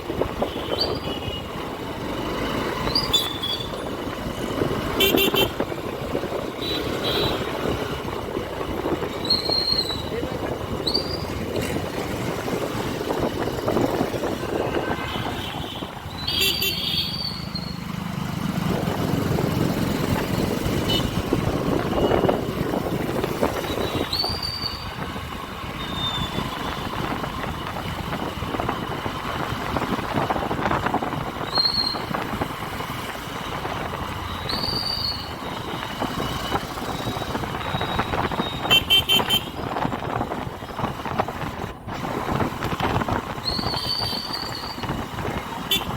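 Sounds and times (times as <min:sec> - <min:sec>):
wind and road noise: 0:00.0 - 0:45.9
motorcycle engine: 0:00.1 - 0:45.9.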